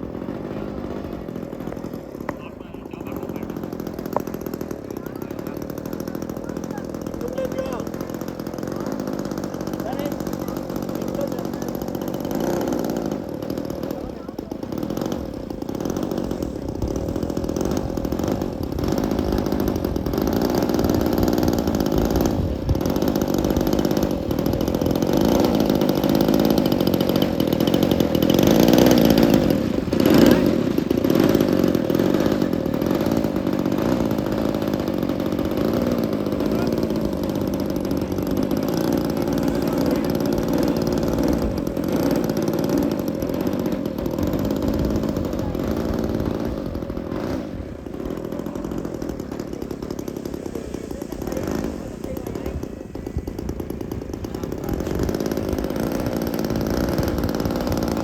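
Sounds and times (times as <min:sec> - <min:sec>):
model aircraft engine running: 0:00.0 - 0:58.0.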